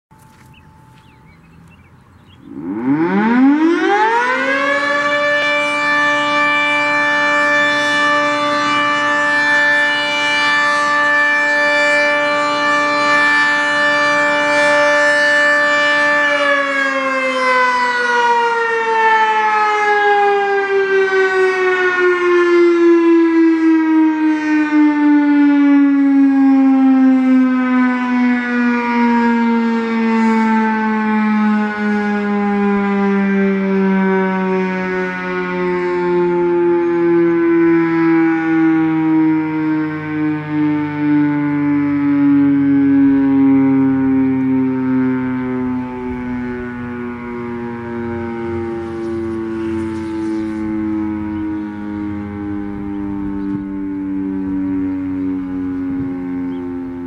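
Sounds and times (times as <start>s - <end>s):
outdoor warning siren wailing: 0.1s - 57.0s.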